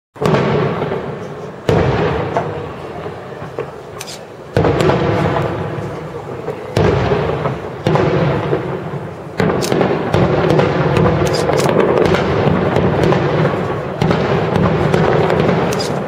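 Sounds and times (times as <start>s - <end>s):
fireworks bangs: 0.2s - 16.0s
fireworks crackling: 0.2s - 16.0s.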